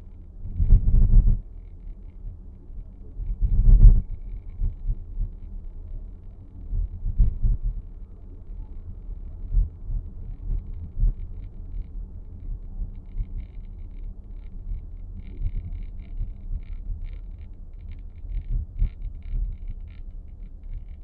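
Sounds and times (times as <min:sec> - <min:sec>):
low cabin rumble: 0:00.0 - 0:21.0.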